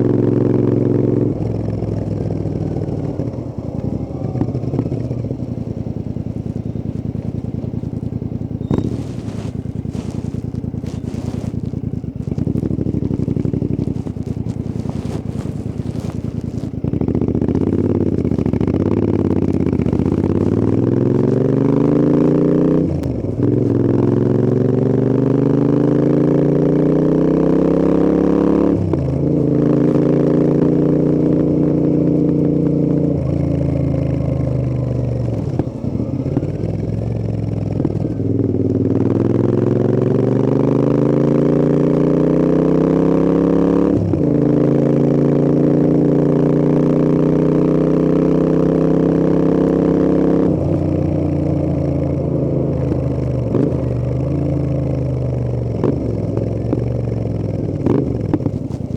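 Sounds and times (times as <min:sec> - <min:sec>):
motorcycle engine accelerating: 0:00.0 - 0:58.9.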